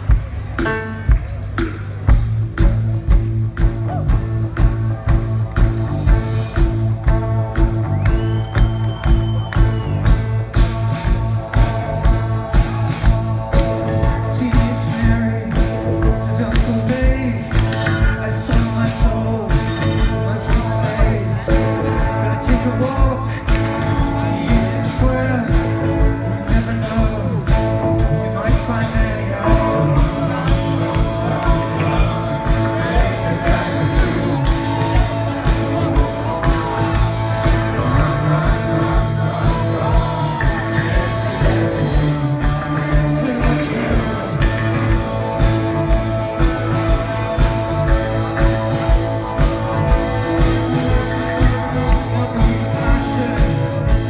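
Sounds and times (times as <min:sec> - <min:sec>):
live rock band playing: 0:00.0 - 0:54.0
person singing: 0:10.1 - 0:54.0.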